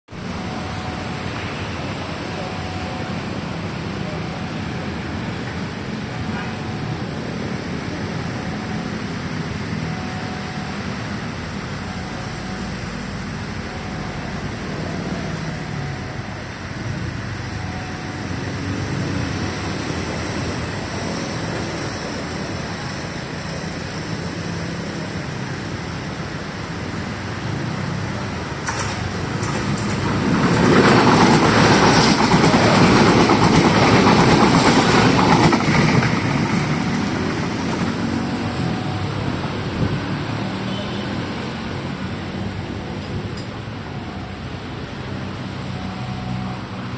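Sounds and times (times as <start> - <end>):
electric train passing: 0.2 - 46.9.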